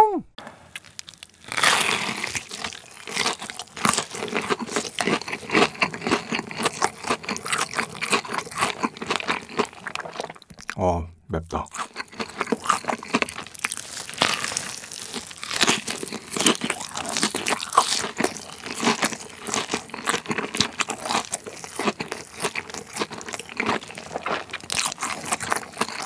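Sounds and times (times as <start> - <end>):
crunchy chewing: 0.7 - 10.8, 11.6 - 26.0.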